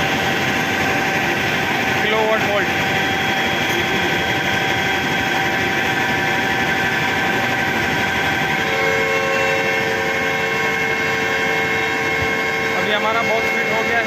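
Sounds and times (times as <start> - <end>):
dense machinery hum: 0.0 - 14.0
machinery whining tones: 0.0 - 14.0.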